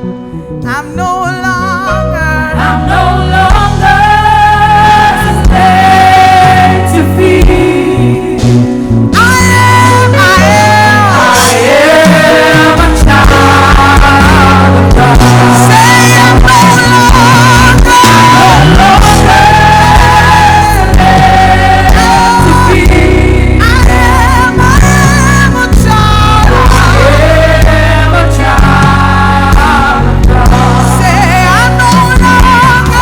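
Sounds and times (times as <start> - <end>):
worship band playing: 0.0 - 33.0
person singing with vibrato: 0.6 - 33.0.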